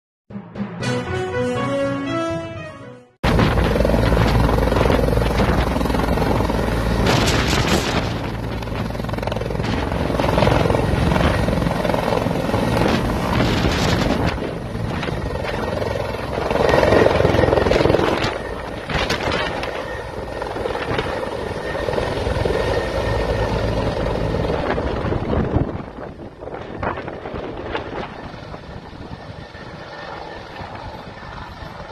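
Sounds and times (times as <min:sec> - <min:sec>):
helicopter engine and rotor: 0:03.2 - 0:31.9.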